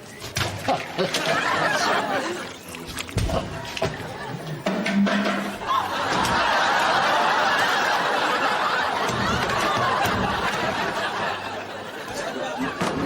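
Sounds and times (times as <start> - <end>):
studio audience laughing: 0.8 - 2.6, 3.9 - 13.0.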